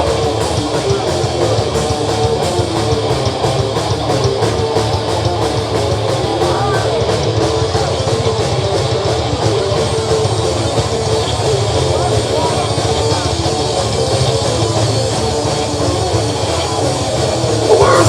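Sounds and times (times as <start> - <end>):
bass guitar: 0.0 - 18.0
drum kit with cymbal hits: 0.0 - 18.0
electric guitar: 0.0 - 18.0.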